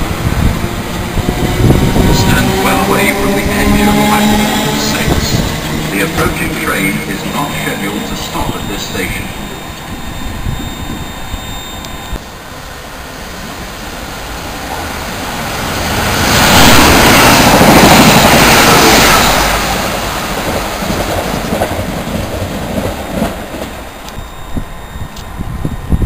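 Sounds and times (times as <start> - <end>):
passenger train passing at speed: 0.0 - 26.0.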